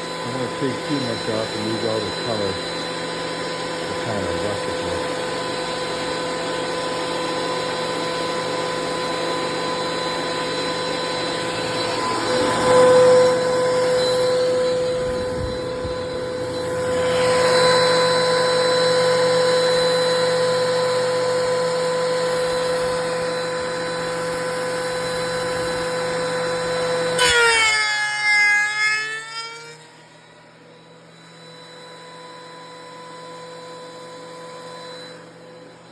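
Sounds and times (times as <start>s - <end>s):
electric planer motor whine: 0.0s - 35.9s.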